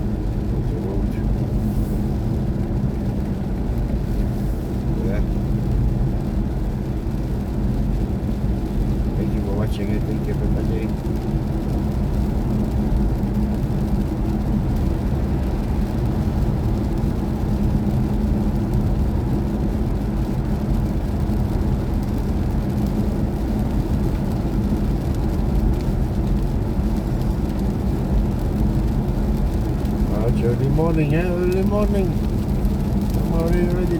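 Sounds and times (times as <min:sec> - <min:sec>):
road and tyre rumble in car: 0:00.0 - 0:33.9.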